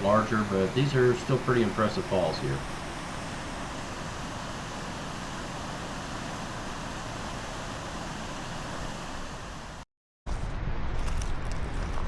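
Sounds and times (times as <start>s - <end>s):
waterfall roaring: 0.0s - 9.8s.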